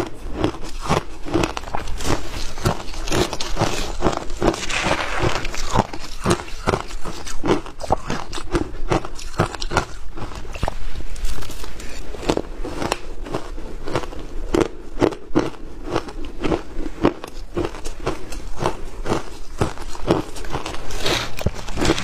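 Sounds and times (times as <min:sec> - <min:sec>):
ice being crunched and chewed: 0:00.0 - 0:22.0.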